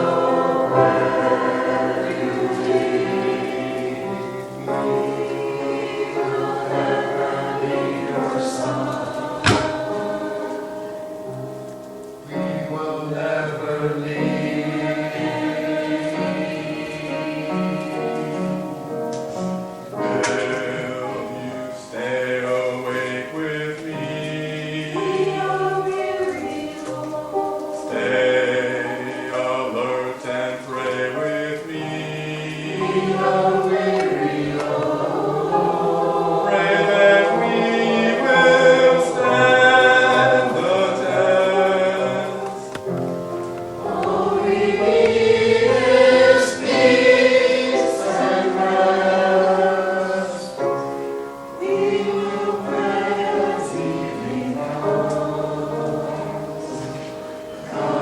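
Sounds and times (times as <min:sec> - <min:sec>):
choir singing with accompaniment: 0:00.0 - 0:58.0.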